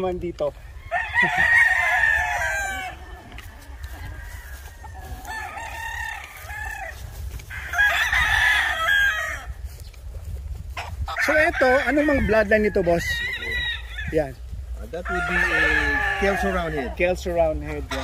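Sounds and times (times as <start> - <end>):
roosters crowing: 0.4 - 18.0.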